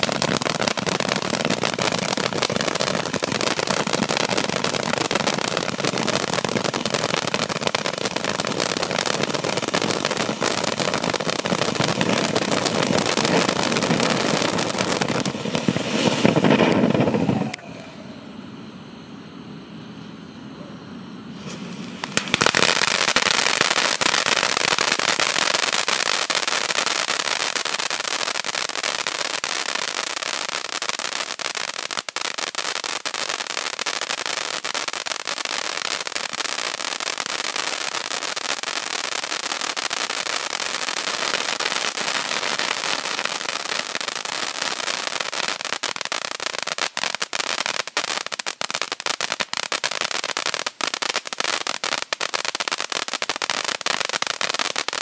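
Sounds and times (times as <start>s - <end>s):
firework fountain hissing: 0.0s - 18.9s, 21.2s - 55.0s.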